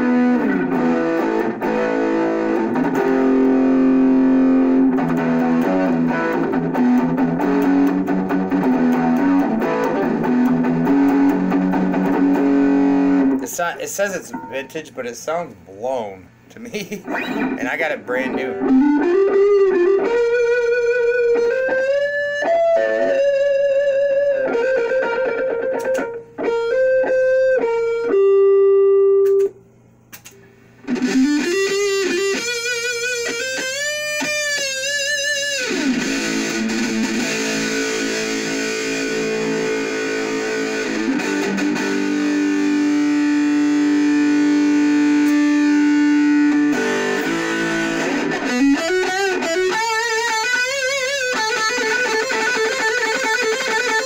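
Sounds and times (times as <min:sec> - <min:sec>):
distorted electric guitar: 0:00.0 - 0:14.8, 0:16.7 - 0:29.6, 0:30.2 - 0:54.0.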